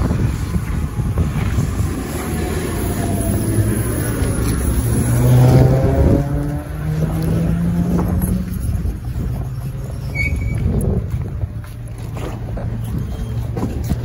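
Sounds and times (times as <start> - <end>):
tram running gear rumble: 0.0 - 14.0.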